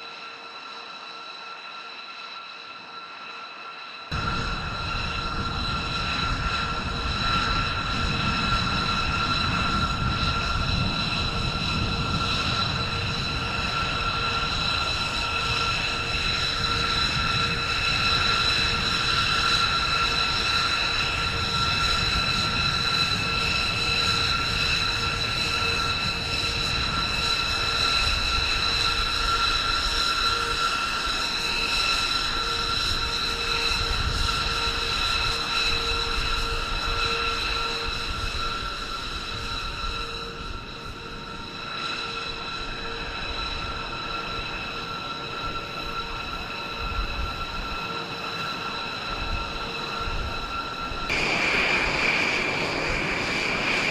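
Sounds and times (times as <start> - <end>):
jet engine running: 0.0 - 53.9.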